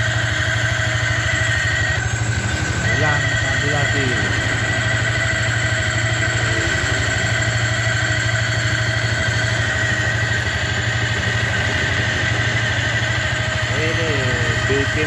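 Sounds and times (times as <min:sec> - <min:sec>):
motorcycle engine idling: 0:00.0 - 0:15.0
steady high whine: 0:00.0 - 0:15.0.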